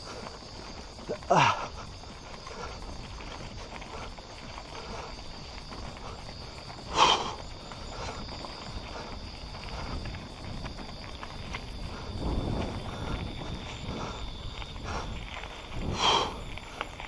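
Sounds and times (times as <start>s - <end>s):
bike rolling over dirt trail: 0.0s - 17.0s
crickets trilling: 0.0s - 17.0s.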